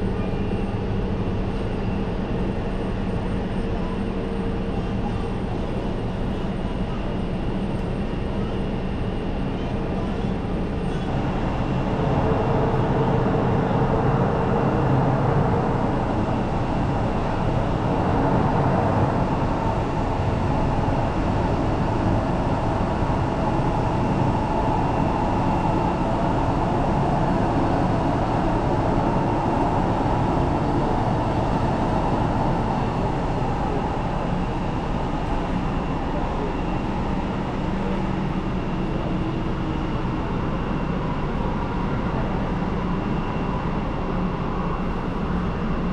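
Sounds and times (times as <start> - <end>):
jet engines rumbling and whining: 0.0 - 45.9.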